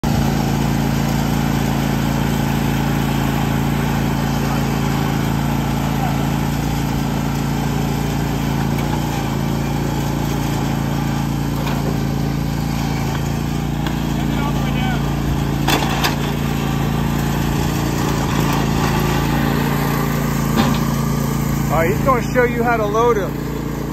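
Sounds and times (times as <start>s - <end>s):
mower engine running steadily: 0.0s - 23.9s.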